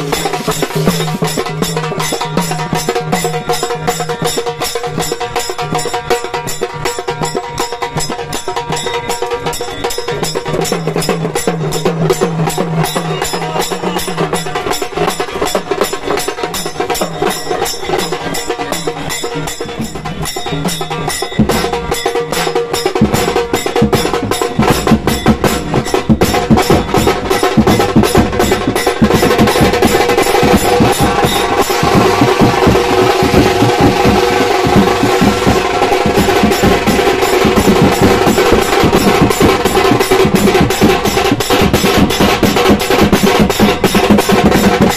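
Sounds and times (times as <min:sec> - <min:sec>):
heavy low drums: 0:00.0 - 0:13.3, 0:17.8 - 0:44.9
percussion-heavy music: 0:00.0 - 0:44.9.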